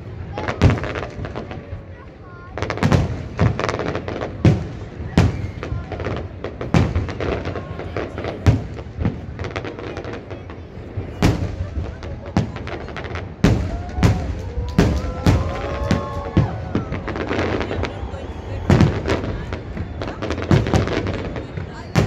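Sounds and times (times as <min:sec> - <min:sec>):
firework crackling: 0:00.0 - 0:22.0
firework shells booming: 0:02.6 - 0:22.0.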